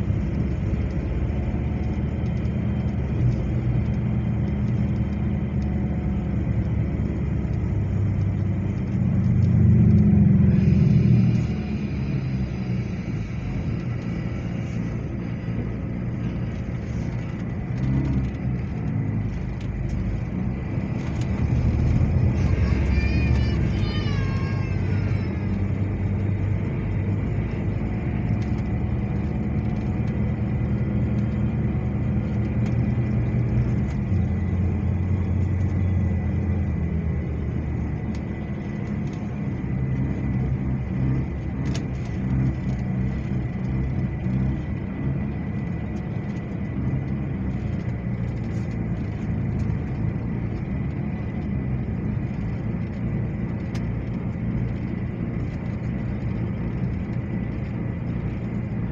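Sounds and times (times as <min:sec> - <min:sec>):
bus diesel engine droning: 0:00.0 - 0:58.9.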